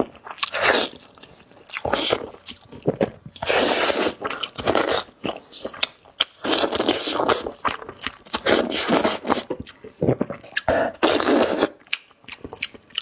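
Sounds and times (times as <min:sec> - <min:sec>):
wet chewing and smacking: 0:00.0 - 0:13.0.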